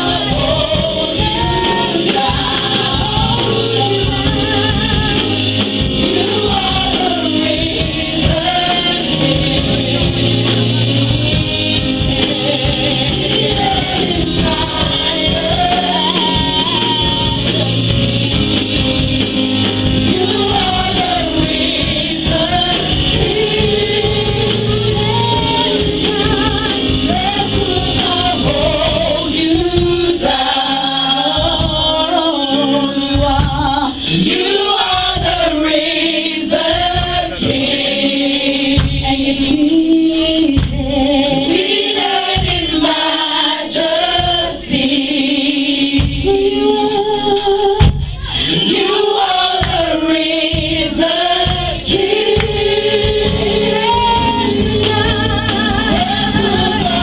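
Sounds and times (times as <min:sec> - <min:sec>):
backing singers: 0:00.0 - 0:57.0
instrumental accompaniment: 0:00.0 - 0:57.0
woman singing into a microphone: 0:00.0 - 0:57.0.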